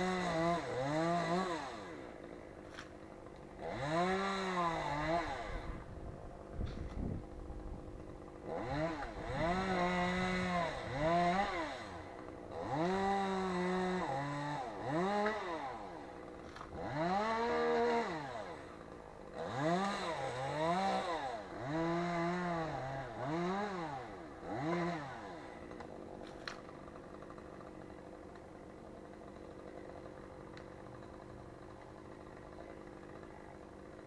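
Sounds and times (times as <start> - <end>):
chainsaw revving: 0.0 - 34.0.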